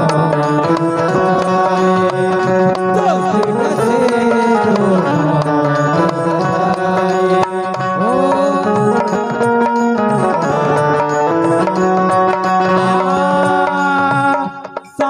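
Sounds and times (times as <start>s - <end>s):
sustained melody notes: 0.0s - 14.4s
tabla drumming: 0.0s - 15.0s.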